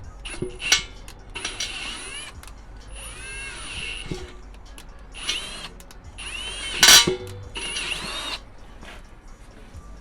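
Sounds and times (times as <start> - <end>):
sharp metallic clank: 0.0 - 8.5.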